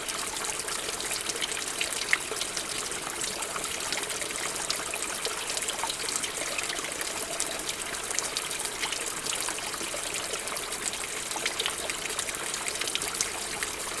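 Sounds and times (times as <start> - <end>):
stream babbling over stones: 0.0 - 14.0.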